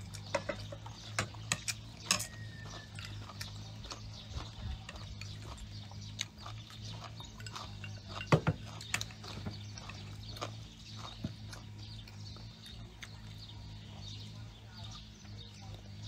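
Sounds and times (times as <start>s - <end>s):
chewing and mouth smacks: 0.0s - 13.4s.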